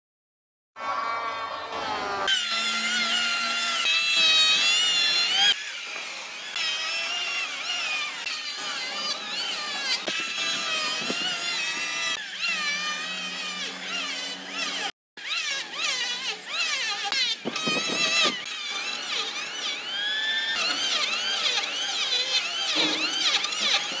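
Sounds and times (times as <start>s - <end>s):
electric planer whining: 0.8s - 24.0s.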